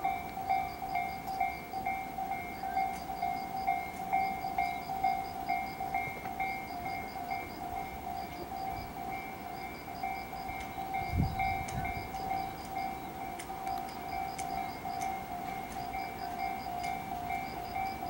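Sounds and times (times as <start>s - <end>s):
electronic crossing bell dinging: 0.0s - 18.0s.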